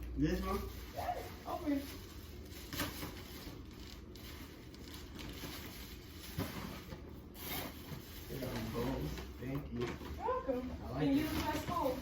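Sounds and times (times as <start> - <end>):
gift packaging rustling: 0.2 - 12.0.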